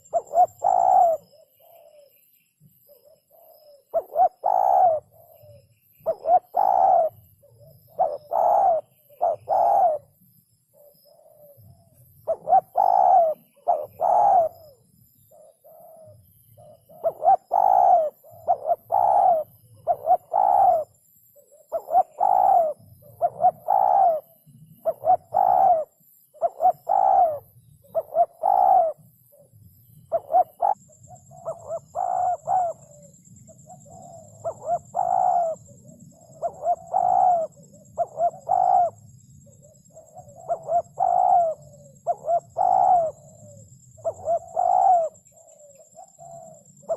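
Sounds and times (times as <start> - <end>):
dove cooing: 0.0 - 2.2, 2.8 - 46.9.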